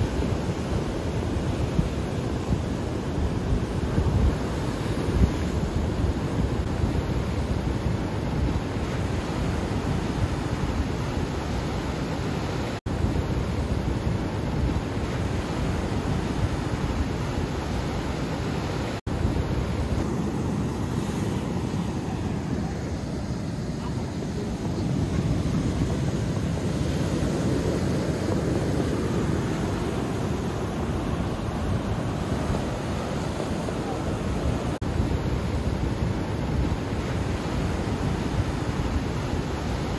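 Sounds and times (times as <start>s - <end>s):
ocean surf breaking on rocks: 0.0s - 39.9s
wind buffeting microphone: 0.0s - 39.9s.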